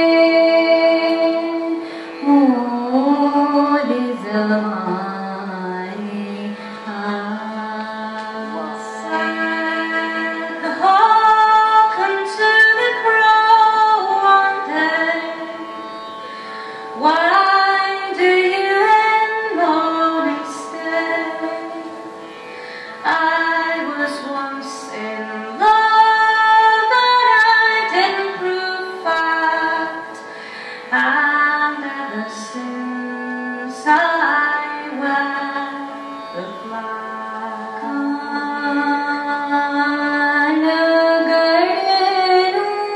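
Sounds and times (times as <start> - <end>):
woman singing slow melody: 0.0 - 15.6, 17.0 - 22.1, 23.0 - 30.2, 30.9 - 42.9.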